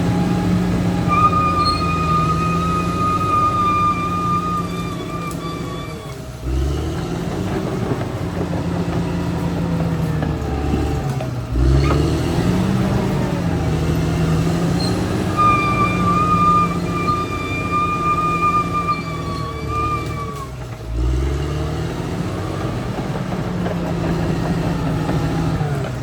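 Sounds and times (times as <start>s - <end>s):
bulldozer diesel engine under load: 0.0s - 26.0s.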